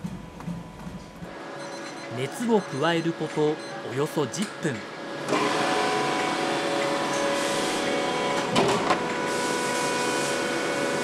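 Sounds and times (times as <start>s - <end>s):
press machine hum: 0.0s - 11.0s.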